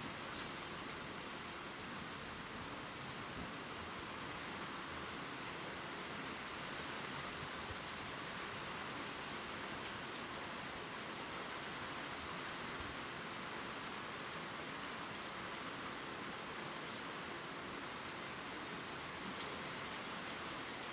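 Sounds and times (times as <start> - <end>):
gentle rain on leaves: 0.0 - 20.9.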